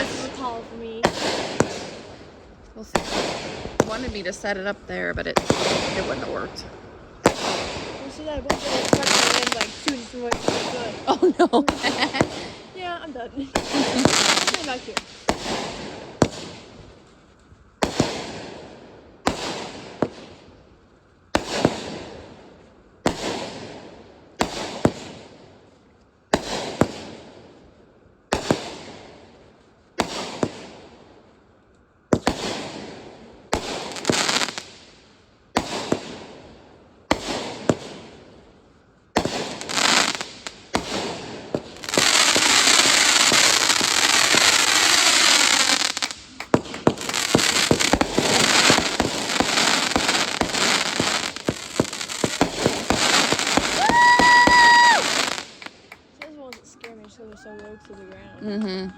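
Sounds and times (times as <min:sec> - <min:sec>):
fireworks bangs: 0:00.0 - 0:20.7, 0:21.3 - 0:25.6, 0:26.3 - 0:31.3, 0:32.1 - 0:58.2
dense fireworks crackling: 0:00.0 - 0:58.0.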